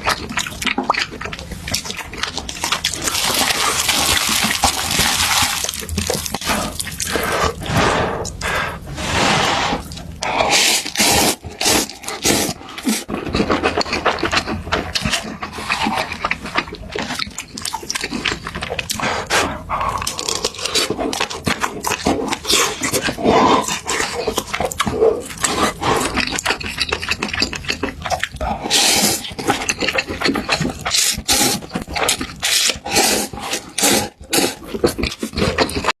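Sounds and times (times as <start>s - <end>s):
wet chewing and lip-smacking: 0.0s - 8.9s, 9.8s - 36.0s.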